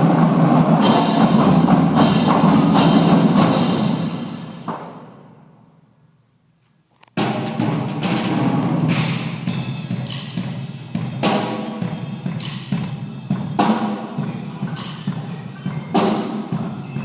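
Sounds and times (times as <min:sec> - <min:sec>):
marching drumline playing: 0:00.0 - 0:05.3, 0:07.2 - 0:17.0.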